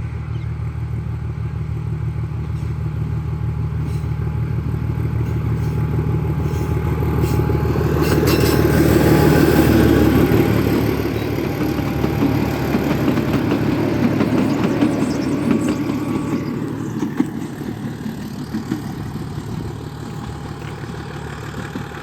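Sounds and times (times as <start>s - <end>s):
diesel locomotive engine running: 0.0s - 22.0s
train wheels rattling on track: 0.0s - 22.0s.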